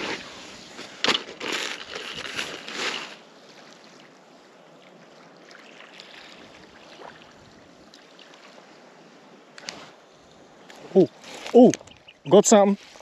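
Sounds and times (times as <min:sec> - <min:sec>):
faint flowing water: 0:00.0 - 0:13.0.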